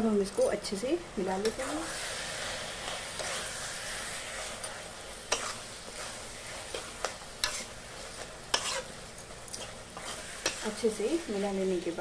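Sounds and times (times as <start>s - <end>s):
mushrooms sizzling in pan: 0.0s - 12.0s
spatula scraping pan: 1.4s - 12.0s.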